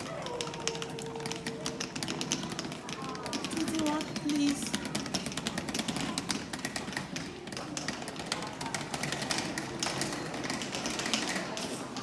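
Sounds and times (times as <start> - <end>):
quick irregular taps and clicks: 0.0 - 12.0.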